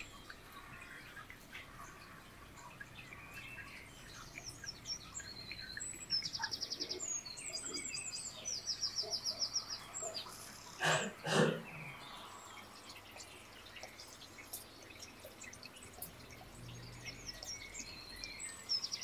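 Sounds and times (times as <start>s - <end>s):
songbirds chirping and trilling: 0.0s - 19.0s.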